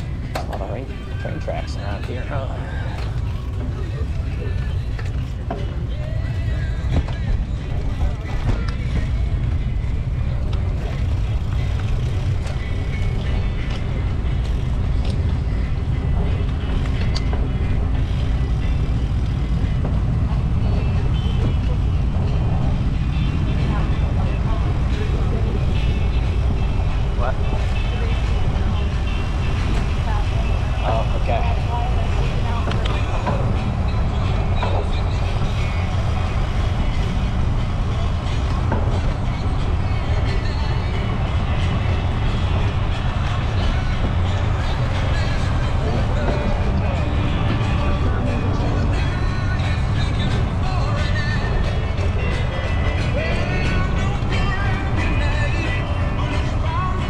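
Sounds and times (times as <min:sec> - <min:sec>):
road noise: 0:00.0 - 0:57.0
wind rushing over microphone: 0:00.0 - 0:57.0.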